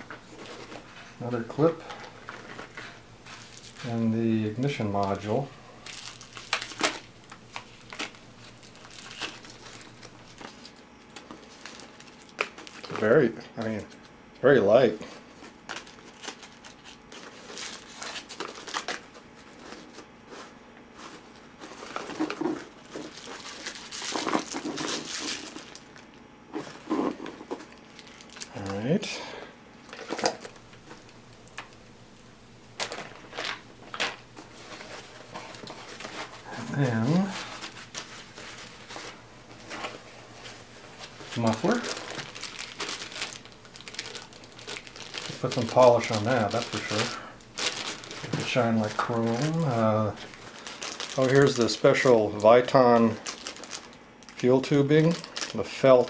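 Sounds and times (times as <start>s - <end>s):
plastic bag rustling: 0.0s - 14.1s, 15.0s - 31.9s, 32.7s - 56.0s.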